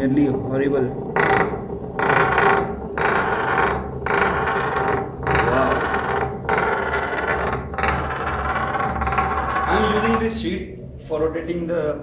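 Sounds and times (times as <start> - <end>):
metal ring scraping and rattling: 0.0 - 10.5.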